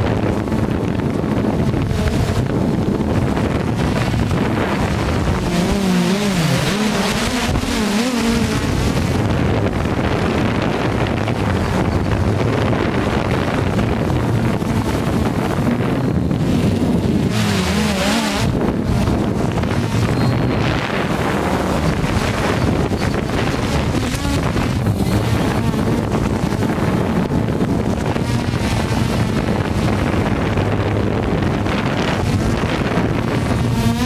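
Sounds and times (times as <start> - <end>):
drone motors whirring: 0.0 - 34.0
wind rush: 0.0 - 34.0.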